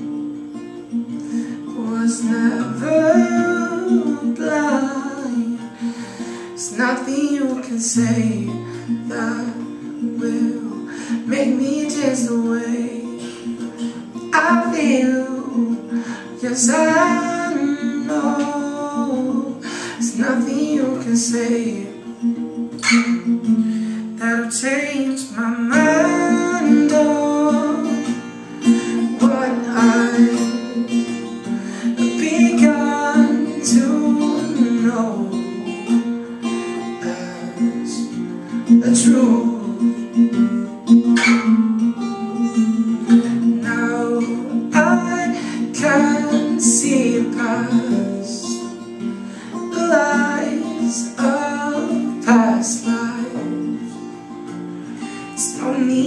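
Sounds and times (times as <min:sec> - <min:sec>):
man singing: 0:00.0 - 0:54.1, 0:55.0 - 0:56.0
acoustic guitar strumming: 0:00.0 - 0:56.0.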